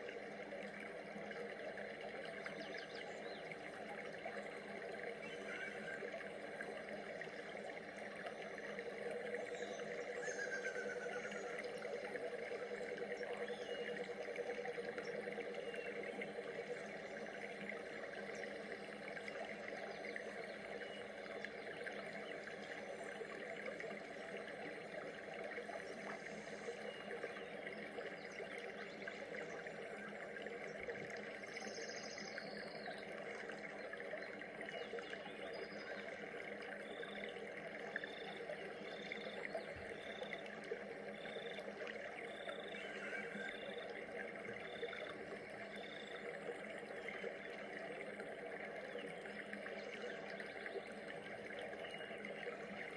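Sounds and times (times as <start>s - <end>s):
flowing water: 0.0s - 52.9s.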